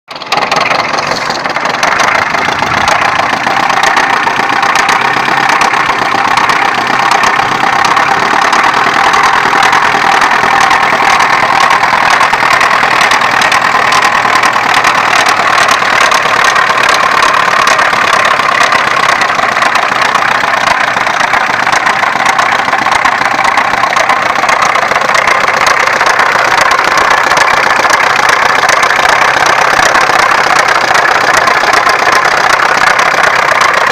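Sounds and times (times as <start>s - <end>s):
car engine idling with knock: 0.1s - 33.9s.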